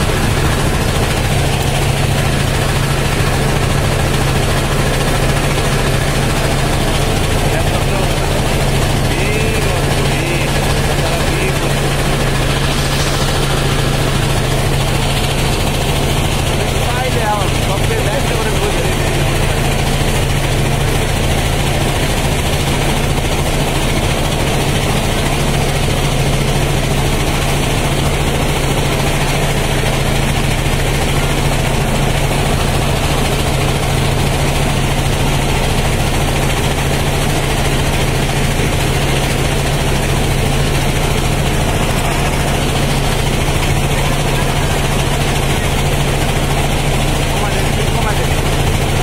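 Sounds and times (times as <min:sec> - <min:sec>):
boat engine droning: 0:00.0 - 0:49.0
churning water from wake: 0:00.0 - 0:49.0.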